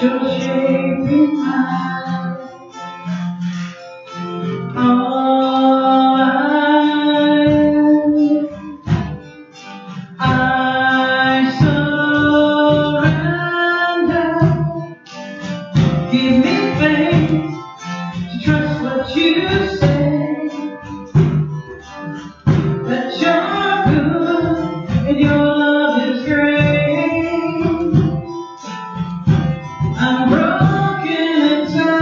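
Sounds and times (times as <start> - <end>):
person singing: 0.0 - 32.0
strummed acoustic guitar: 0.0 - 32.0.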